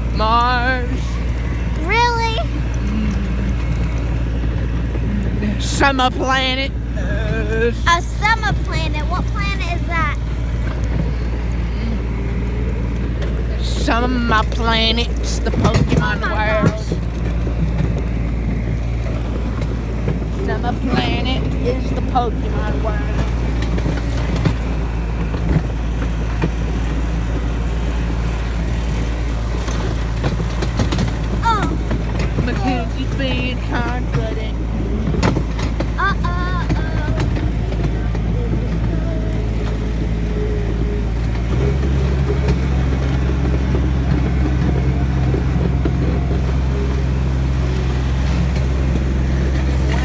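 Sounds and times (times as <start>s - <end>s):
knocks and rattles: 0.0s - 50.0s
tractor engine running: 0.0s - 50.0s.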